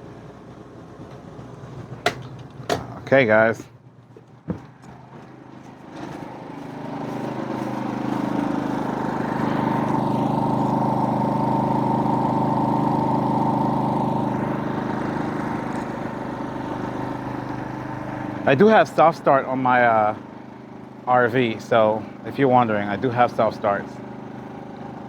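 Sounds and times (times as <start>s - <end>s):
generator engine hum: 0.0s - 25.0s.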